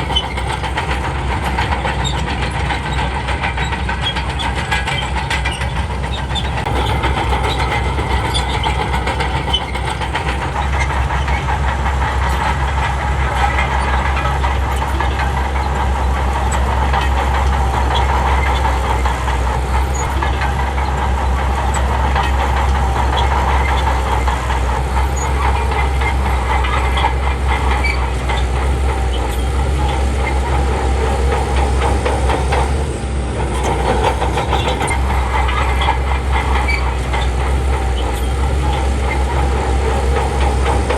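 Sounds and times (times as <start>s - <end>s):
bulldozer diesel engine working: 0.0s - 40.9s
steel crawler tracks clattering: 0.0s - 40.9s.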